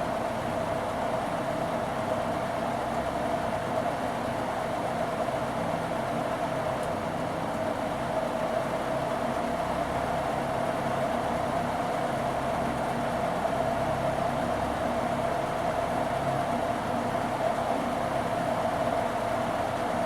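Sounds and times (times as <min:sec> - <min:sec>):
ceiling fan air rushing: 0:00.0 - 0:20.0.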